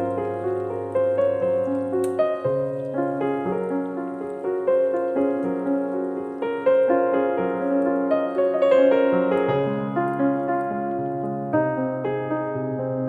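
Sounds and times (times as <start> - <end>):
calm piano music: 0.0 - 13.0.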